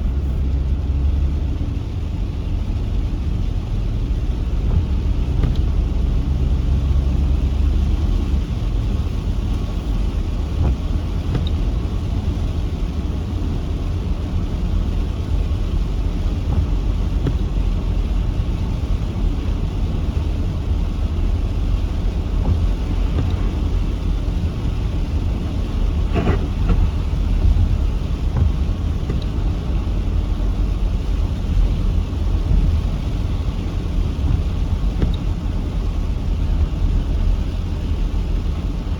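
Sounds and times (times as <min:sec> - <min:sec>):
heavy rainstorm rushing: 0:00.1 - 0:38.9.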